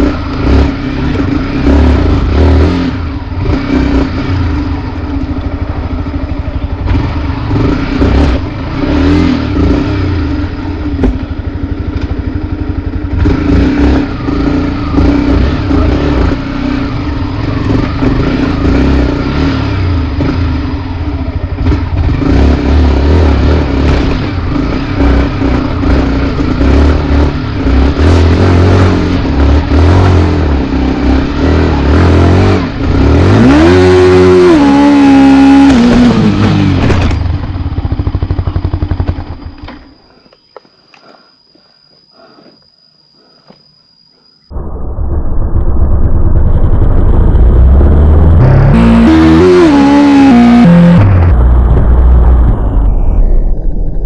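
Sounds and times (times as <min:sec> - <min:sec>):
motorcycle engine revving: 0:00.0 - 0:40.0, 0:46.0 - 0:54.0.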